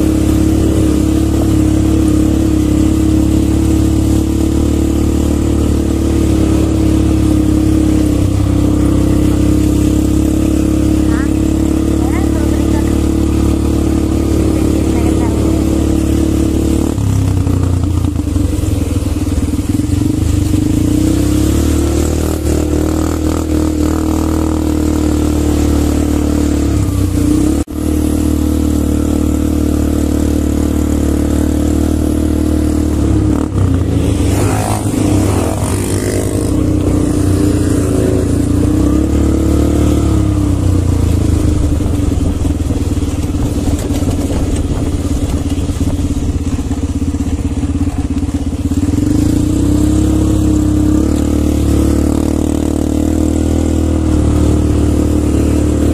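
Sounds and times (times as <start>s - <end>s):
quad bike engines running: 0.0s - 55.9s.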